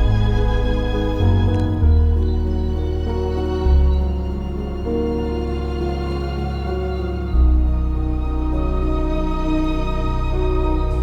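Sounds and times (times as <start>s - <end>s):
soft slow background music: 0.0s - 11.0s.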